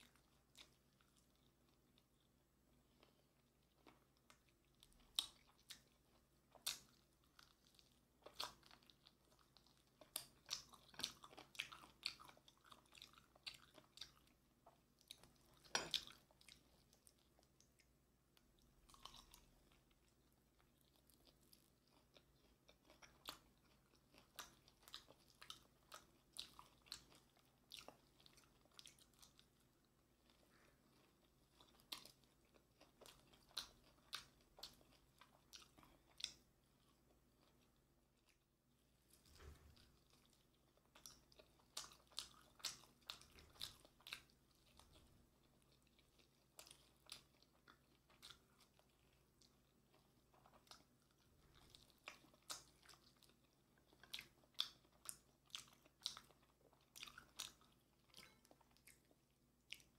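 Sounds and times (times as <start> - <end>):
crunchy chewing of fried chicken: 0.0 - 59.9.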